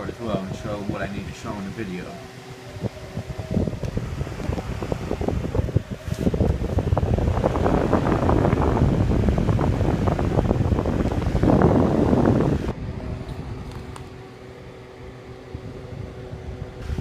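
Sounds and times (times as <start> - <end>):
faint motor hum: 0.0 - 17.0
fan air buffeting microphone: 0.0 - 17.0
fan whirring: 0.0 - 17.0.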